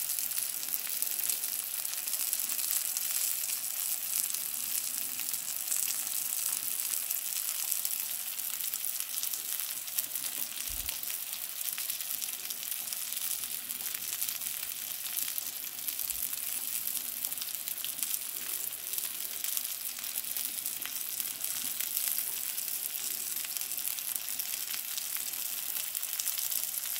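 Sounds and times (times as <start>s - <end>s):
fish frying in butter: 0.0s - 26.9s.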